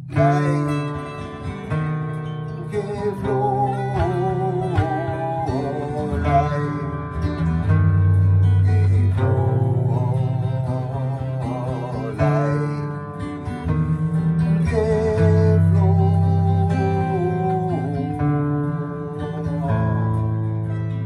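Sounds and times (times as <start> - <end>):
person singing wordless melody: 0.0 - 1.7, 2.6 - 7.7, 8.3 - 20.8
acoustic guitar strumming chords: 0.0 - 21.0.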